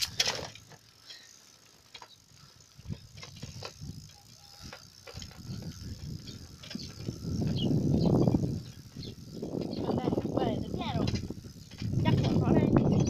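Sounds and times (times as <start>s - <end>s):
motorbike riding on dirt track: 0.0s - 13.0s.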